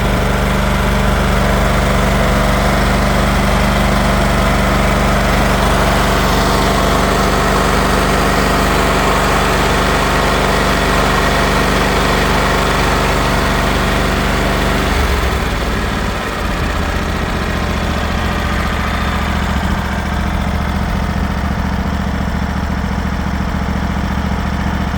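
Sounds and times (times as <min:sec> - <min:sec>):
riding lawn mower engine running: 0:00.0 - 0:24.9.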